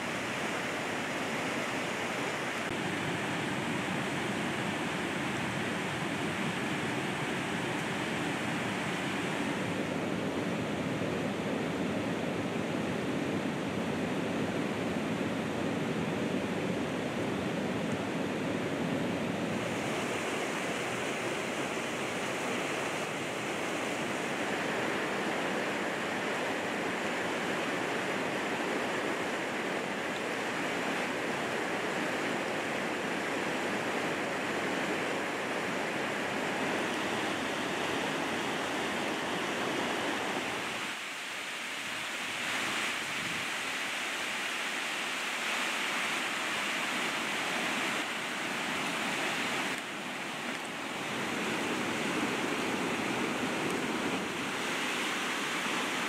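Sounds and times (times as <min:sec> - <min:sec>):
white-water river rushing: 0:00.0 - 0:56.0.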